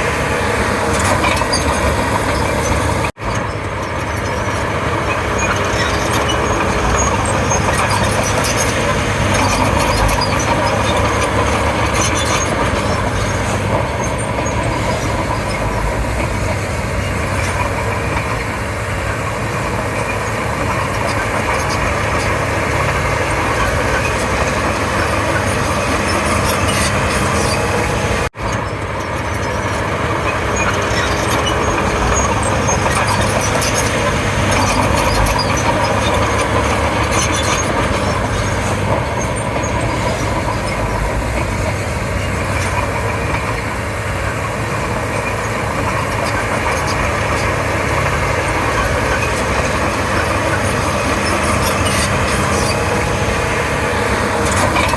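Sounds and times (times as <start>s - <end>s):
bulldozer diesel engine and tracks: 0.0s - 54.9s.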